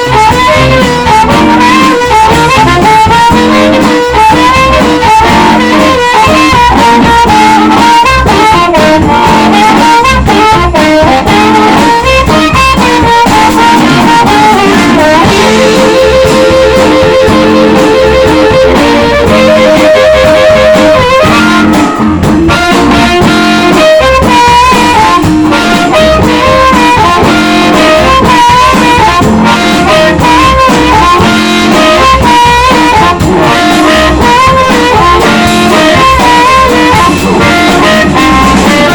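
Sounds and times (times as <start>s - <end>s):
blues band playing: 0.0s - 38.9s
harmonica: 0.0s - 38.9s.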